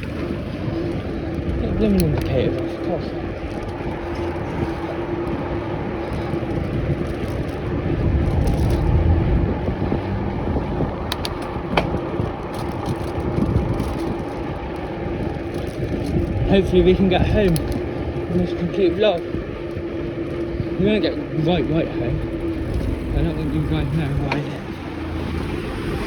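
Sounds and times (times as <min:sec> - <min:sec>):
road noise hum: 0:00.0 - 0:26.0
traffic rumble: 0:00.0 - 0:26.0
wind: 0:00.0 - 0:26.0.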